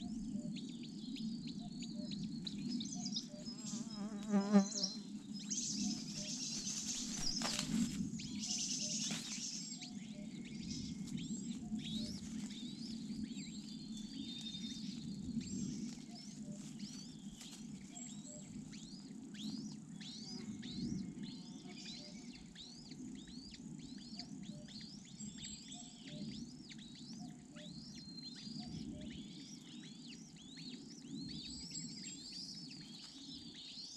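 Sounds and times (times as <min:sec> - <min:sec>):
insects: 0:00.0 - 0:33.9.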